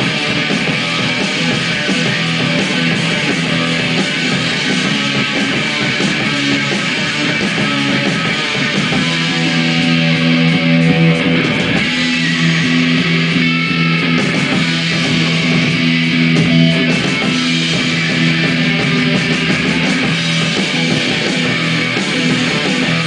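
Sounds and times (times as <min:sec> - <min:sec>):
bass guitar: 0:00.0 - 0:23.0
drum kit with cymbals: 0:00.0 - 0:23.0
electric guitars: 0:00.0 - 0:23.0.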